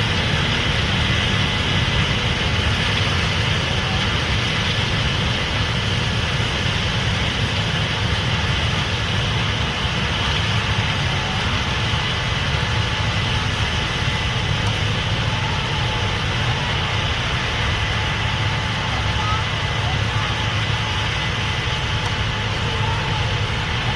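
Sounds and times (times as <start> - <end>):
combine engine drone: 0.0 - 23.9
high machinery hiss: 0.0 - 23.9.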